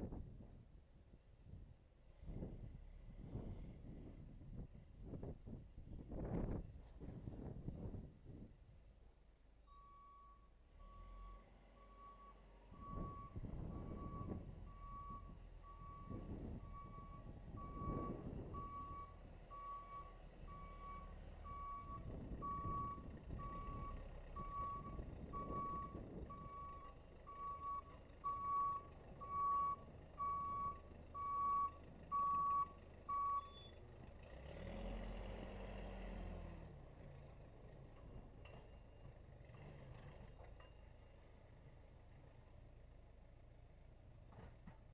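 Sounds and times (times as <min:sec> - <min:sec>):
backhoe engine: 0:00.0 - 0:08.5, 0:09.1 - 0:44.9.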